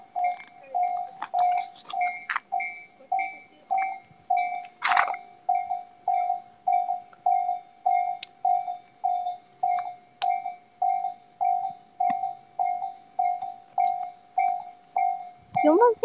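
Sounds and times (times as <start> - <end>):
level crossing alarm dinging: 0.0 - 16.0.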